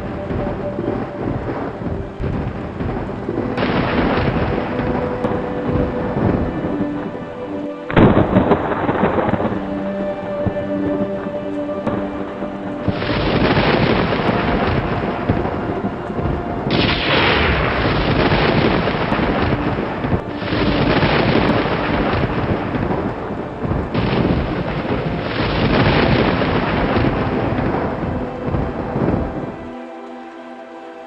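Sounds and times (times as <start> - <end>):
thunder cracks and rumbles: 0.0 - 7.2, 11.8 - 29.7.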